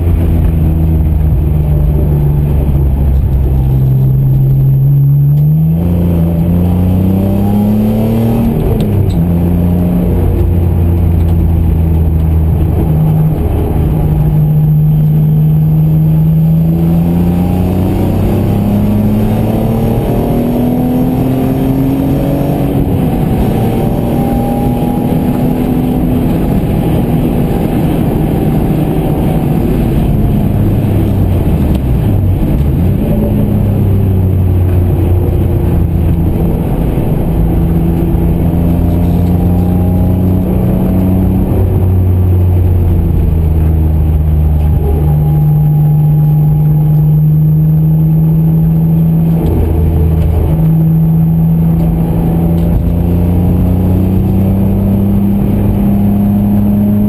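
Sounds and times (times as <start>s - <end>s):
car engine accelerating through gears: 0.0s - 57.0s
tyre and road noise: 0.0s - 57.0s.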